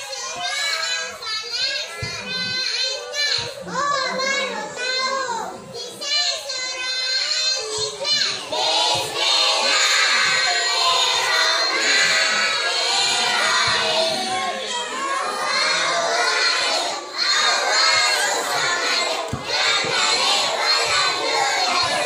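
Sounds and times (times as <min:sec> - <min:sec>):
children singing loudly: 0:00.0 - 0:22.0.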